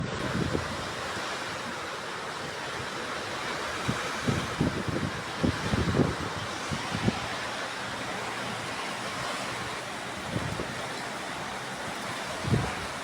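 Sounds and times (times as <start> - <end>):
heavy rain: 0.0 - 13.0
strong wind: 0.0 - 13.0
wind buffeting microphone: 0.0 - 13.0.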